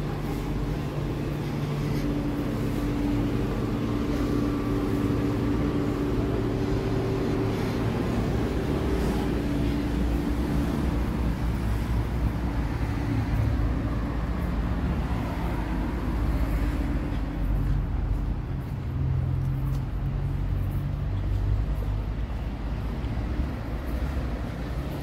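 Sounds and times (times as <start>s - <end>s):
car engines running: 0.0s - 25.0s.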